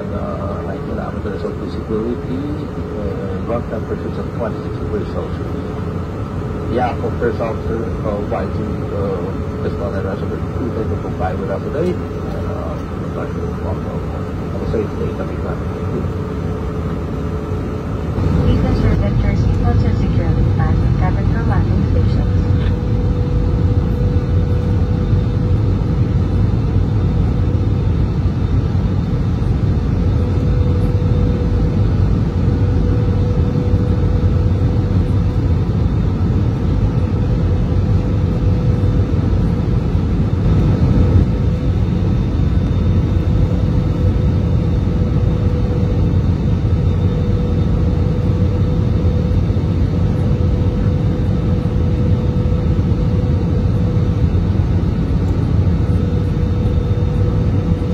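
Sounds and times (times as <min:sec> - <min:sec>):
airplane cabin engine rumble: 0:00.0 - 0:57.9
constant cabin hum: 0:00.0 - 0:57.9.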